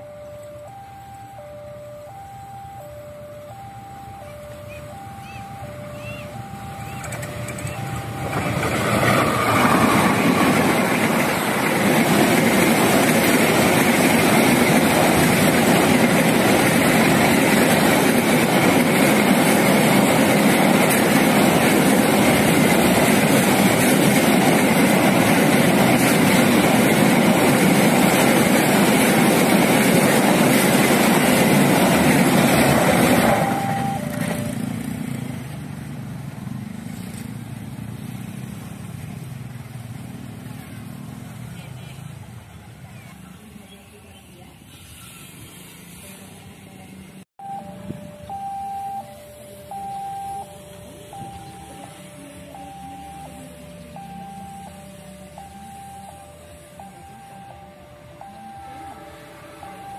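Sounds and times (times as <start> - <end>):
freight train rumbling on rails: 0.0 - 59.9.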